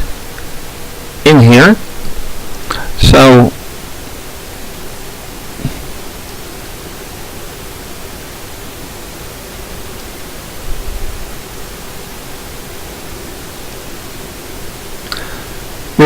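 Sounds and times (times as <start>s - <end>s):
faint hum: 0.0s - 16.0s
steady hiss: 0.0s - 16.0s.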